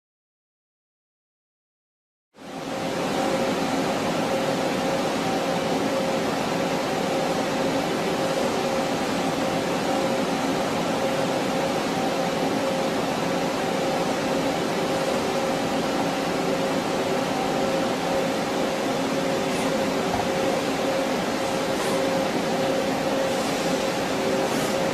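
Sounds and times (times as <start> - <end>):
machine hum and whir: 2.4 - 24.9.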